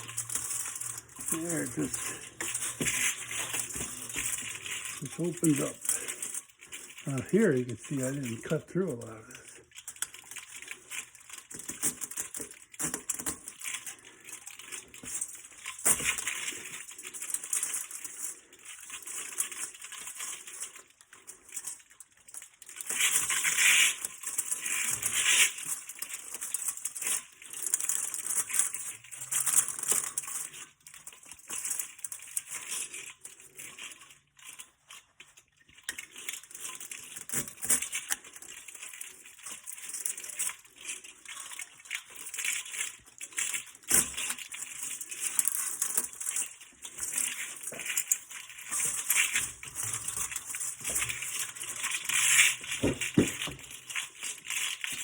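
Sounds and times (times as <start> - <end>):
metal fins crinkling and scraping: 0.0 - 55.0.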